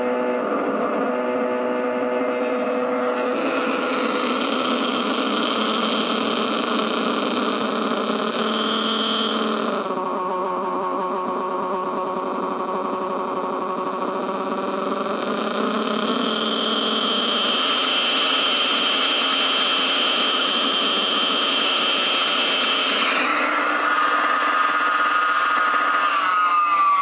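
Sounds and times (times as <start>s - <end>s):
distorted amp noise: 0.0s - 27.0s.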